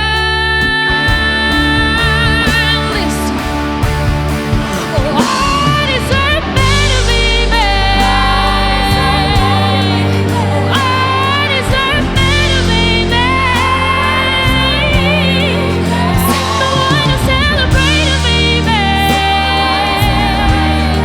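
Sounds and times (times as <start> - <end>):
live rock band: 0.0 - 21.0
sliding lead guitar melody: 0.0 - 21.0.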